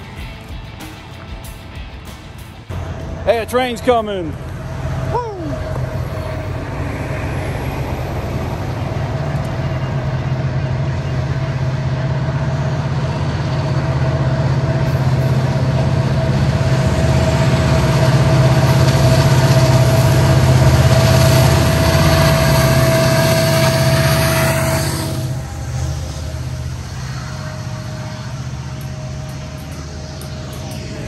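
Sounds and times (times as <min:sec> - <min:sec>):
diesel locomotives passing: 0:00.0 - 0:31.0
steady engine whine: 0:00.0 - 0:31.0.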